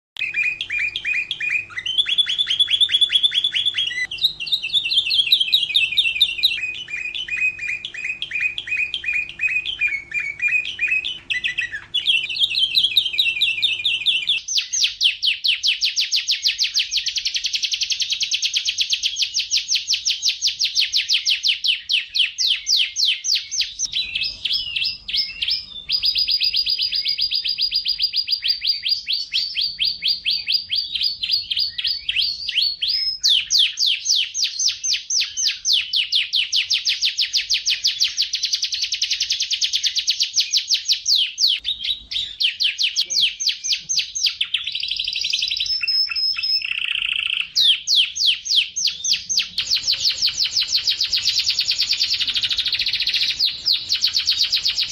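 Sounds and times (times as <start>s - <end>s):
canary singing trills: 0.2s - 54.9s.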